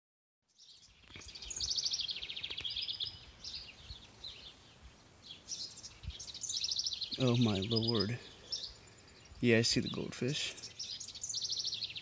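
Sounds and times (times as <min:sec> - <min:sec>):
songbird trilling and chirping: 0:00.5 - 0:12.0.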